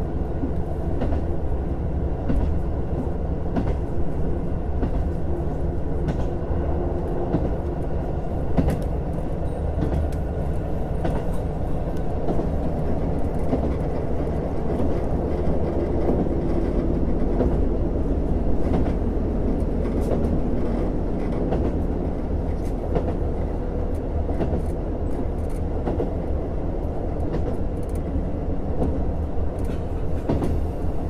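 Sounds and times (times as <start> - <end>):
railcar engine and wheels rumbling: 0.0 - 31.0.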